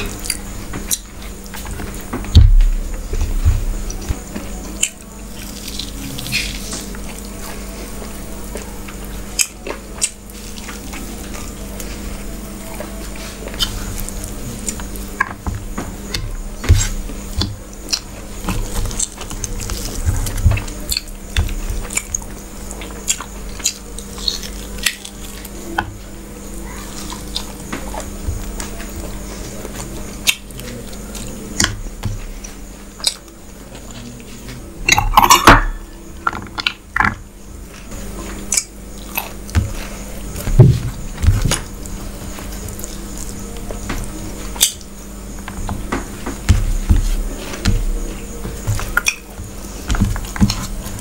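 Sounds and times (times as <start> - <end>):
wet chewing: 0.0 - 51.0.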